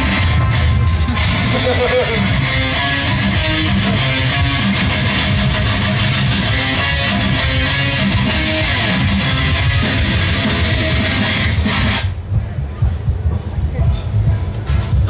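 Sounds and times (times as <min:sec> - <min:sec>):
loud rock music with guitars: 0:00.0 - 0:12.1.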